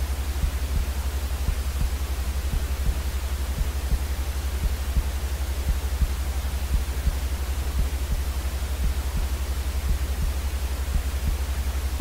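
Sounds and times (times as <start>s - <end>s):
white noise hiss: 0.0s - 12.0s
fast low throb: 0.3s - 12.0s.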